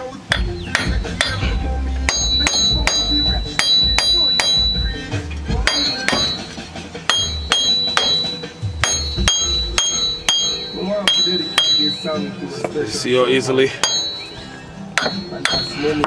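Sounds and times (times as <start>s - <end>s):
hammer striking metal: 0.3s - 12.4s, 13.8s - 16.0s.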